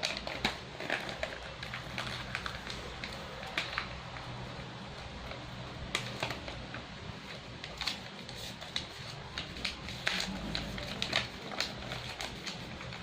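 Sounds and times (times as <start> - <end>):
paper crackling and crinkling: 0.0 - 13.0.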